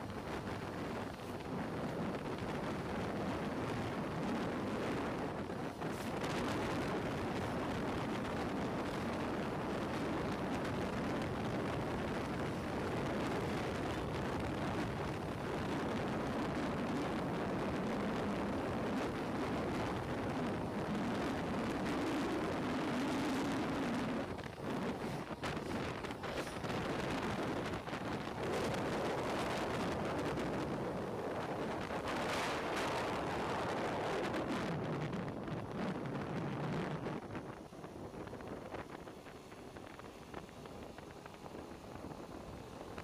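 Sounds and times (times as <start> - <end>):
low engine drone: 0.0 - 43.0
wind rushing over microphone: 0.0 - 43.0.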